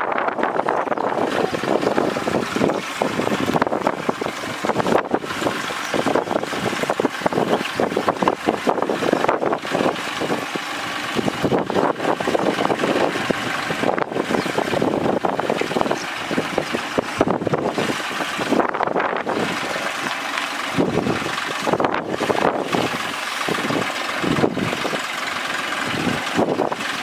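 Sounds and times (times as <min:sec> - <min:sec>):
wind buffeting microphone: 0:00.0 - 0:25.1, 0:25.7 - 0:27.0
tractor engine under load: 0:00.0 - 0:27.0.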